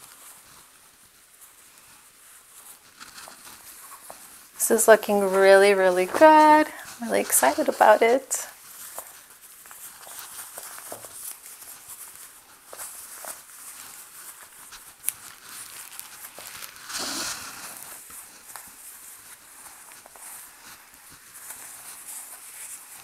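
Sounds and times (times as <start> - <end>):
shirt rustling and crinkling: 0.0 - 23.0.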